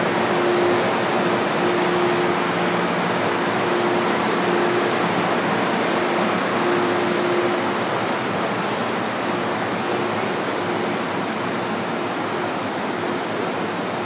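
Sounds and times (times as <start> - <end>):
faint hum: 0.0 - 14.0
train air-conditioning rushing: 0.0 - 14.0.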